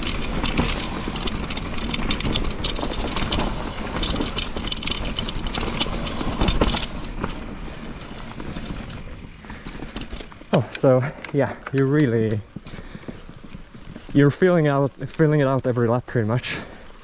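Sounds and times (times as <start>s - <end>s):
bike rattling over rough trail: 0.0s - 17.0s.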